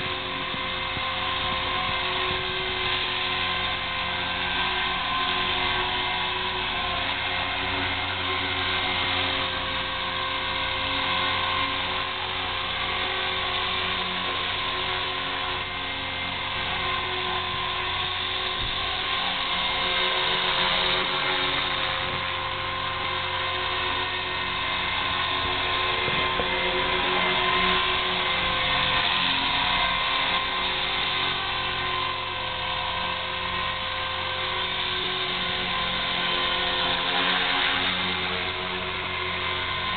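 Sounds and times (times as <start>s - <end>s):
rc helicopter hovering: 0.0s - 39.9s.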